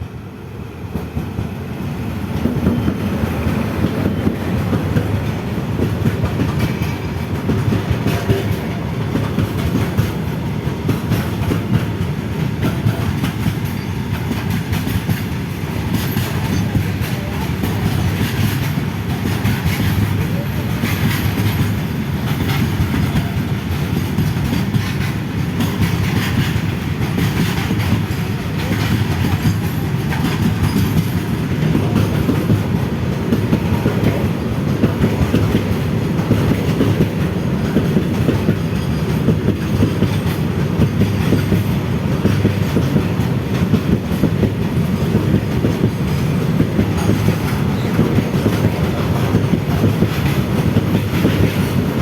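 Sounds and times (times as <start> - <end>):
train wheels clattering on rails: 0.0 - 52.0.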